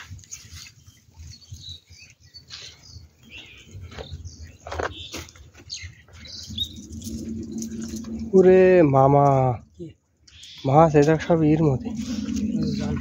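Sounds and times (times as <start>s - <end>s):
birds chirping: 0.8s - 9.0s, 9.6s - 13.0s.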